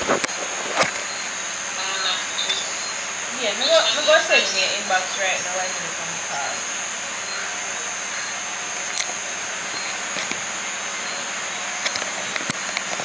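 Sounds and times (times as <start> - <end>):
crickets chirring: 0.0 - 13.0
steady hiss: 0.0 - 13.0.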